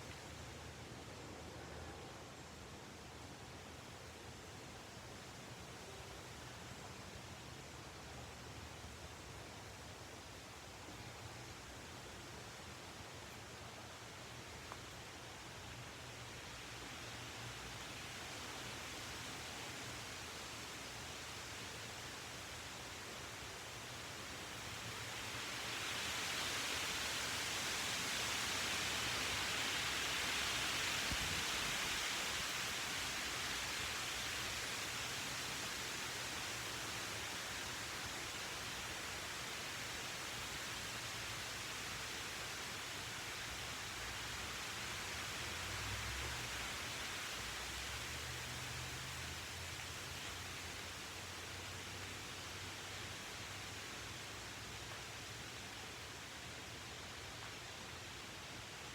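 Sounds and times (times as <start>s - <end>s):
steady hiss: 0.0s - 58.9s.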